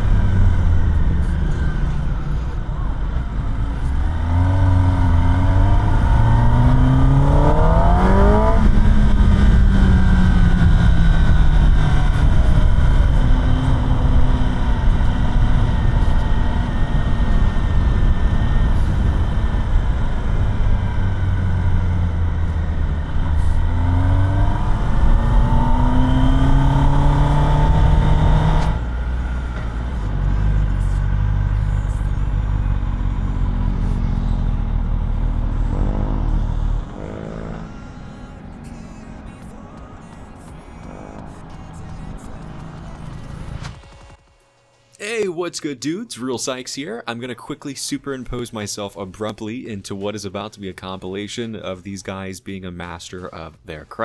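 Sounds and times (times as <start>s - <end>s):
wind and road noise: 0.0s - 44.3s
motorcycle engine accelerating: 0.0s - 45.2s.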